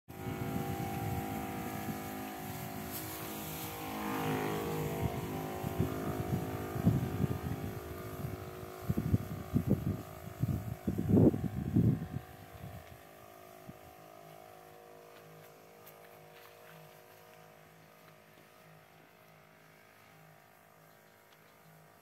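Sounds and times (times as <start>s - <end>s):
electric sprayer pump humming: 0.1s - 22.0s.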